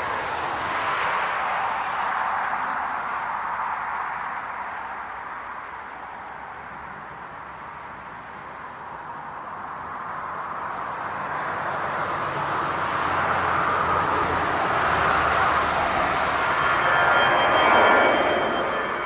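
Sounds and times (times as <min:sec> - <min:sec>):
jet airliner engine roar: 0:00.0 - 0:19.0.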